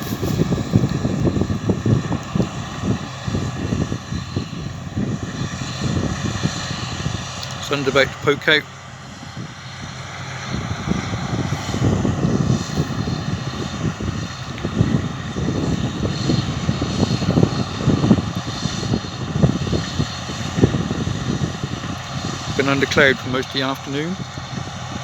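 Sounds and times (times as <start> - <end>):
farm machinery droning: 0.0 - 25.0
wind buffeting microphone: 0.0 - 25.0.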